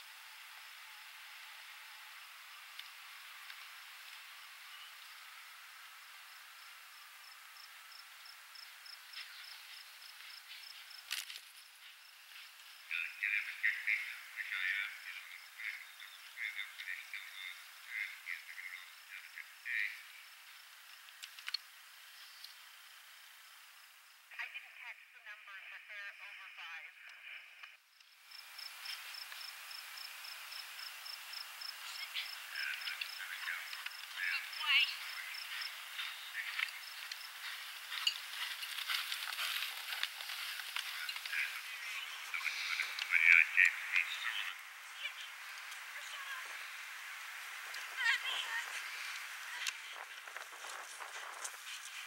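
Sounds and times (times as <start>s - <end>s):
insect chirping: 0.0s - 24.3s, 27.8s - 52.0s
steady outdoor hiss: 0.0s - 52.0s.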